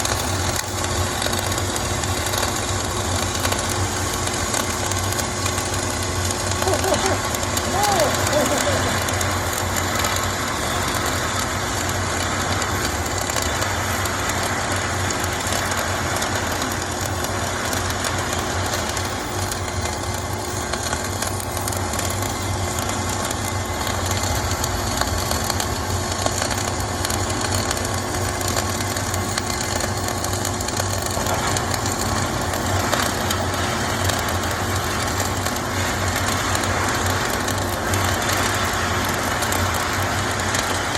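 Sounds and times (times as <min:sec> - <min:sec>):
welding arc crackling and hissing: 0:00.0 - 0:40.9.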